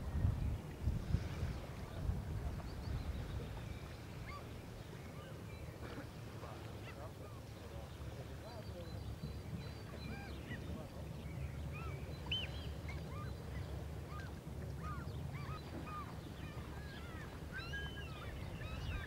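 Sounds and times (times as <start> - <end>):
waterbirds calling: 0.1 - 19.0.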